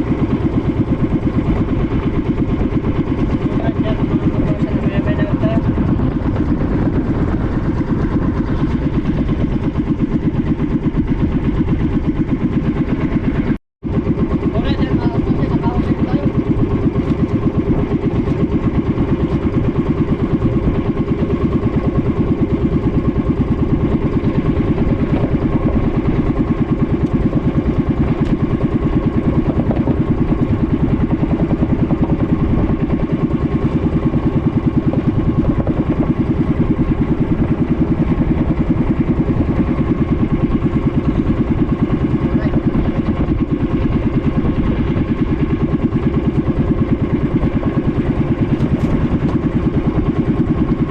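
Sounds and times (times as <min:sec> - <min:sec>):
small boat engine running: 0:00.0 - 0:50.9.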